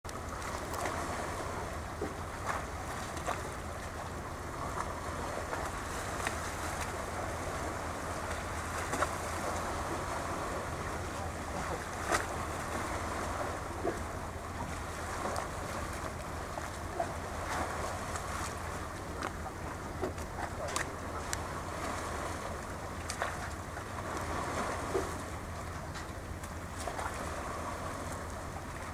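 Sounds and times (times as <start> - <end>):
water along shoreline: 0.0 - 28.9.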